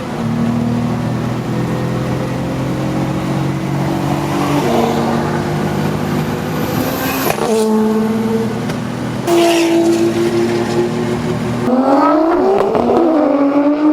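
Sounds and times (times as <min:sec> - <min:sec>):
car engine running: 0:00.0 - 0:11.7.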